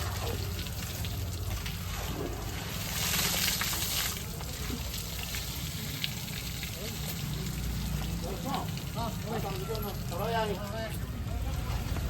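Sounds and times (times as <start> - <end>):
elephant splashing water: 0.0 - 10.2
hissing water spray: 0.0 - 10.5.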